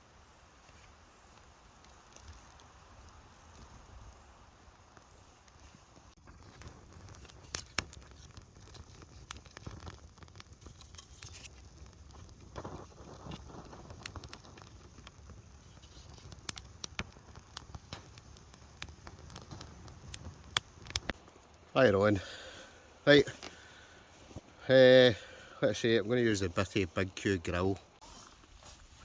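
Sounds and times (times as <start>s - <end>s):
campfire crackling and popping: 0.2s - 29.0s.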